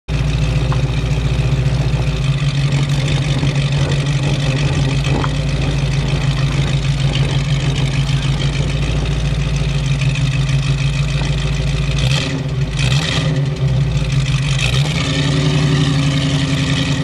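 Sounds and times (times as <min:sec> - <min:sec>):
car engine and exhaust at low revs: 0:00.1 - 0:17.0.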